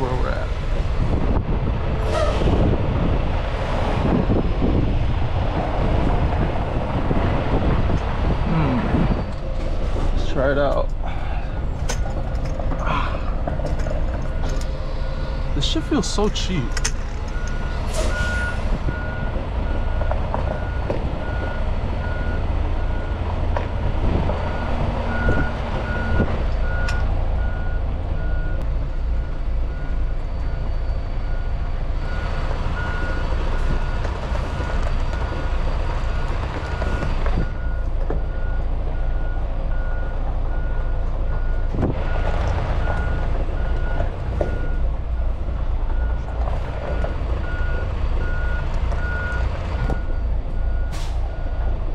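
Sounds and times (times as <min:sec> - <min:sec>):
diesel engine rumble: 0:00.0 - 0:51.9
truck backup alarm beeping: 0:07.6 - 0:23.4, 0:24.1 - 0:51.9.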